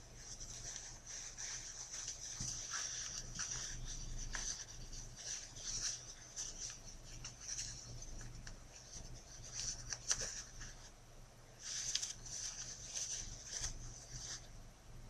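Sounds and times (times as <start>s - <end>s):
fabric rustling and rubbing: 0.0s - 11.0s, 11.6s - 14.6s
faint low steady hum: 0.0s - 15.0s.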